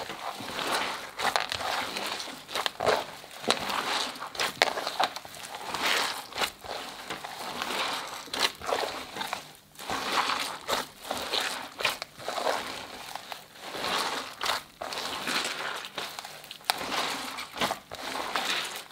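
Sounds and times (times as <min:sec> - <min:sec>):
hands squelching wet slime: 0:00.0 - 0:18.9.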